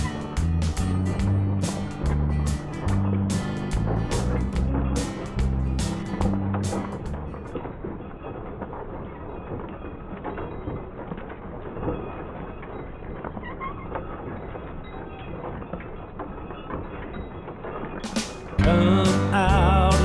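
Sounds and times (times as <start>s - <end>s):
wooden wheels rumbling on road: 0.0s - 16.7s.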